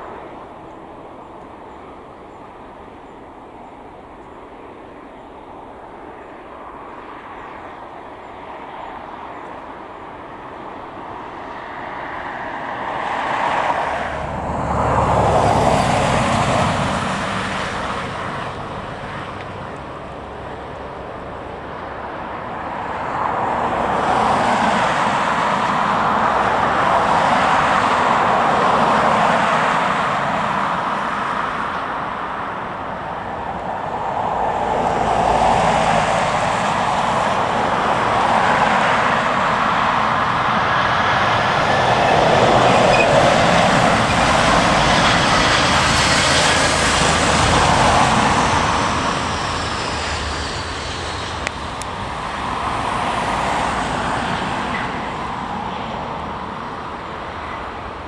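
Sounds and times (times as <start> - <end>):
jet engine rush: 0.0 - 58.0.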